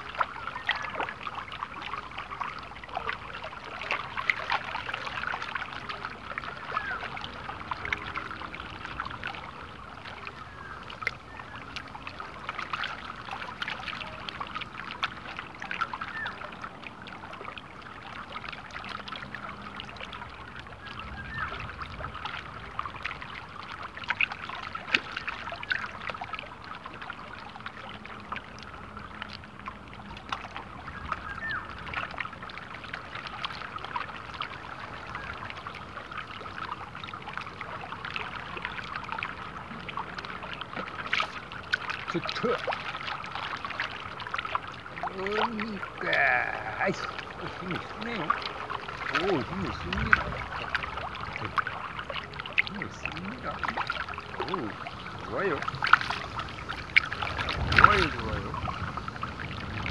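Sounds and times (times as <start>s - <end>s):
water ripples lapping and splashing: 0.0s - 59.9s.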